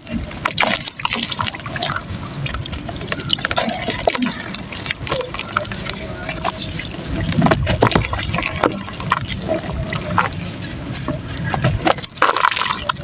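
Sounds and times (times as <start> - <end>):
mud crumbling in water: 0.0 - 13.0.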